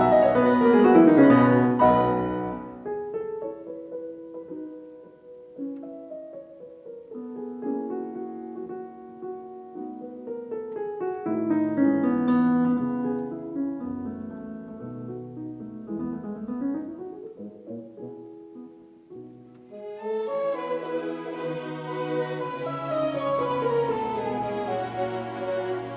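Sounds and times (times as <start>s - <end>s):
gentle piano music: 0.0s - 25.9s.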